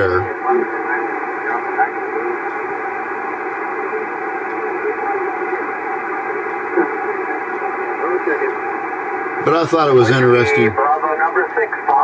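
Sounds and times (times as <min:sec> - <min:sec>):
radio hiss and static: 0:00.0 - 0:12.0.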